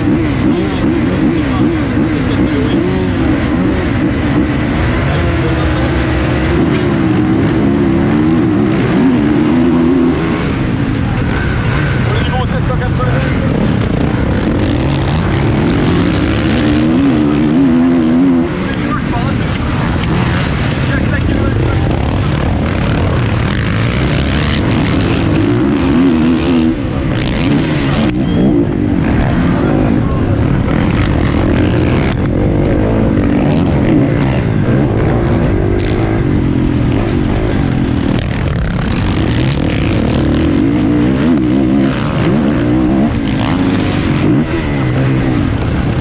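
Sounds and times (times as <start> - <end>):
motocross bike engine revving: 0.0 - 46.0.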